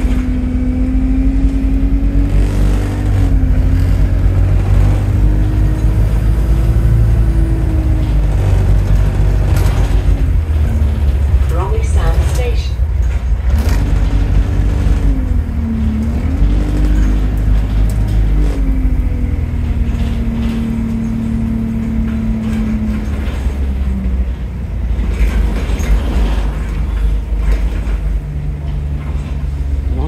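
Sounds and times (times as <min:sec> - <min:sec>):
bus engine rumble: 0:00.0 - 0:30.0
whining drivetrain: 0:00.0 - 0:30.0.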